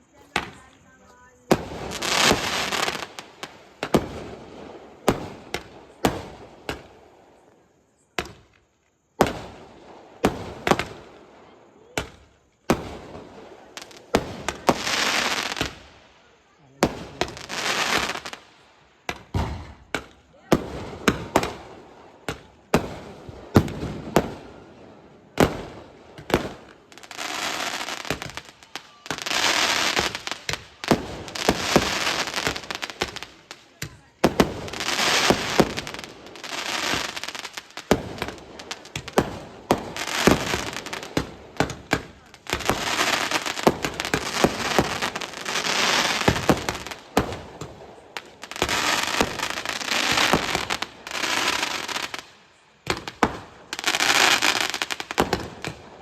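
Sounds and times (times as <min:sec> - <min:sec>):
fireworks bangs: 0:00.0 - 0:56.0
fireworks crackling: 0:00.0 - 0:56.0.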